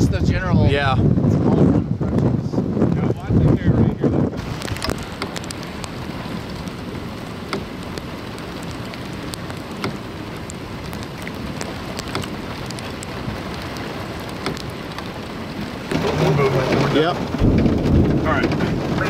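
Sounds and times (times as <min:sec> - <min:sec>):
rain drumming on car roof: 0:00.0 - 0:19.0.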